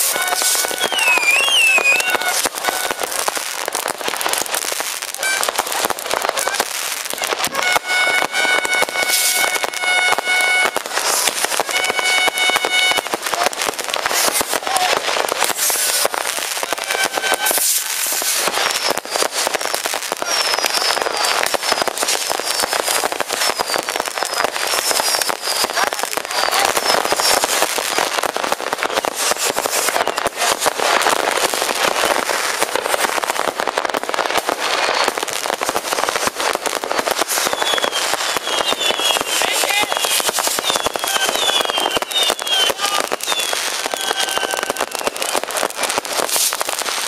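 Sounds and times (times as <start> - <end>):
fireworks bangs and crackles: 0.0 - 47.0
fireworks whistling: 0.0 - 47.0.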